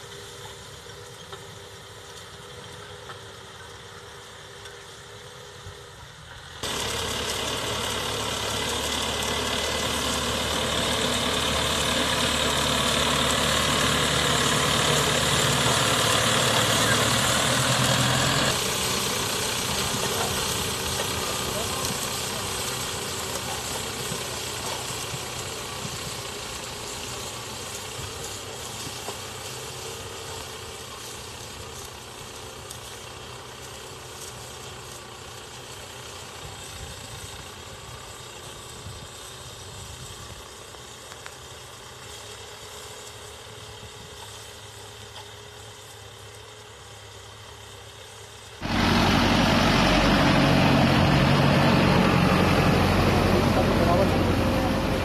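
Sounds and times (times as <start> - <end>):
tractor engine pulling plough: 0.0 - 55.0.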